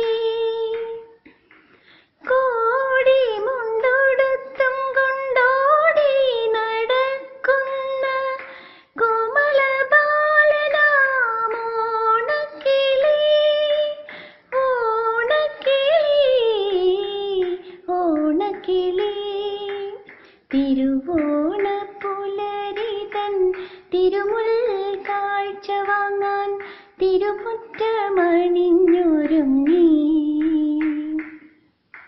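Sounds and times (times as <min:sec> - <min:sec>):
woman singing wordless melody: 0:00.0 - 0:01.3, 0:02.2 - 0:31.6.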